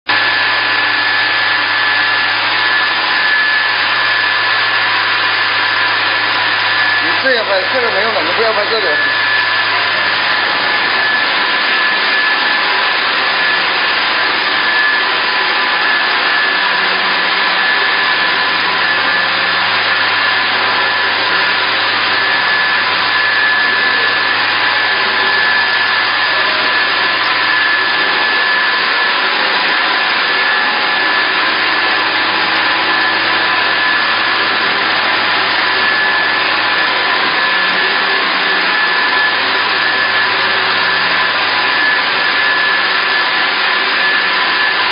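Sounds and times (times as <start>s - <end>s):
processing machinery whirring: 0.1s - 44.9s.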